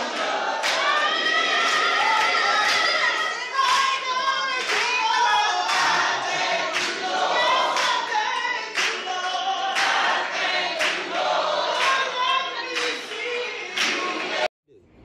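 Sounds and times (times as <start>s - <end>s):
group of voices singing: 0.0s - 14.5s
hand claps: 0.1s - 1.0s, 1.6s - 14.5s.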